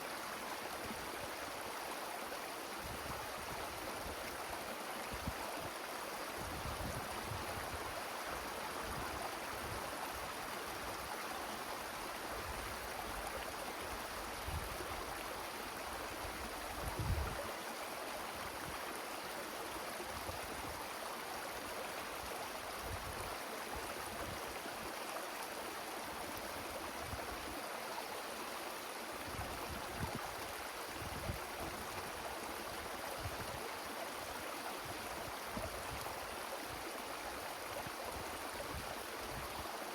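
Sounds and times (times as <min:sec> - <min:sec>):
wind through trees: 0:00.0 - 0:39.9.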